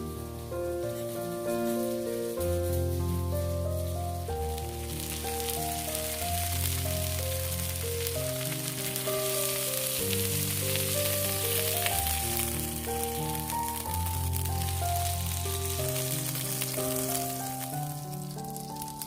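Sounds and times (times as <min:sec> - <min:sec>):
food sizzling in a pan: 0:00.0 - 0:19.0
slow background music: 0:00.0 - 0:19.0.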